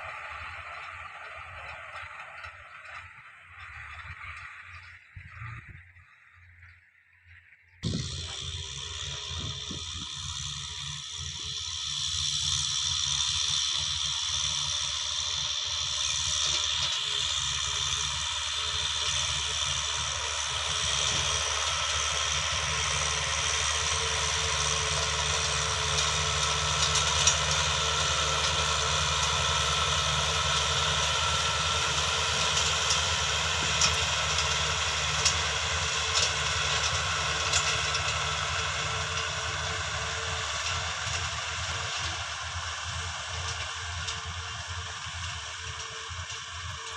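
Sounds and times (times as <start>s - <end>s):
farm machine engine running: 0.0s - 46.9s.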